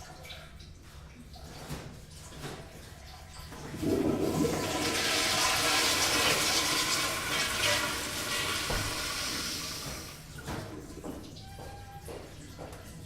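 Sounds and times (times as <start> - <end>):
toilet flushing: 0.8 - 12.9.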